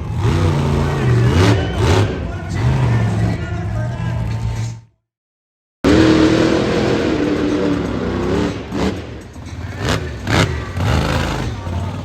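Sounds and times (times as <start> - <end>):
monster truck engine revving: 0.0 - 4.9, 5.8 - 12.0.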